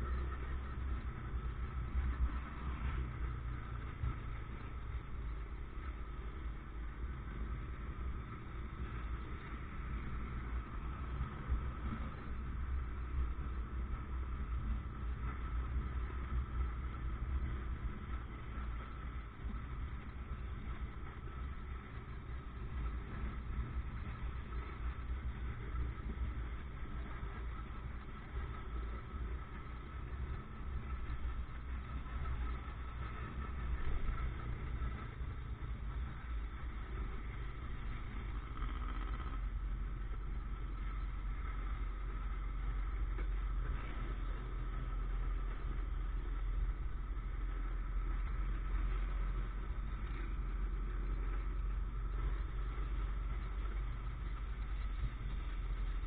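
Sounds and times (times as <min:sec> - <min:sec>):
motorcycle engine running: 0:00.0 - 0:56.0
traffic: 0:00.0 - 0:56.0.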